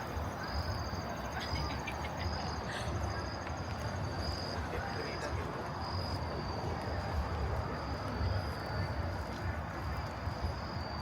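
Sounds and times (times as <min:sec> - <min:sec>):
crickets trilling: 0:00.0 - 0:09.1, 0:10.2 - 0:11.0
low rumble of city noise: 0:00.0 - 0:11.0.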